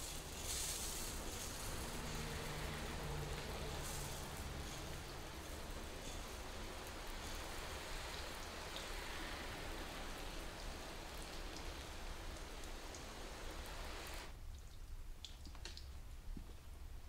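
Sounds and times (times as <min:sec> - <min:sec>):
hose water spraying on car: 0:00.0 - 0:14.3.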